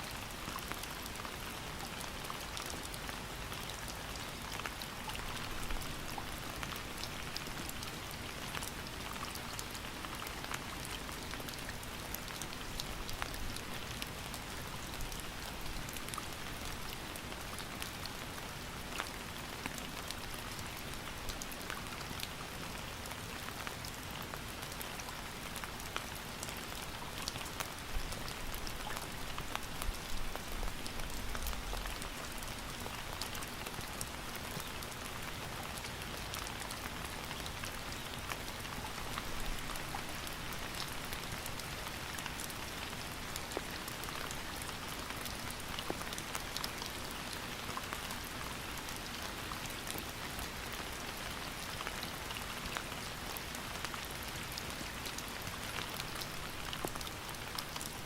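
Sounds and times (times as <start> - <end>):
raindrops ticking on a surface: 0.0 - 58.0
steady rain falling: 0.0 - 58.0.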